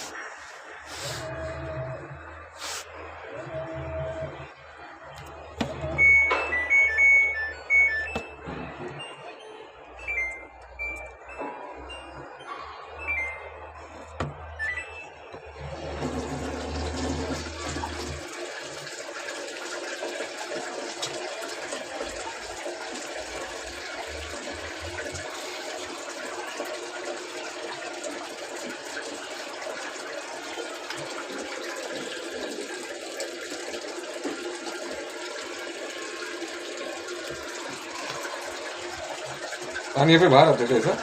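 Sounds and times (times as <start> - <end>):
water rushing into washing machine: 0.0 - 9.2, 13.0 - 41.0.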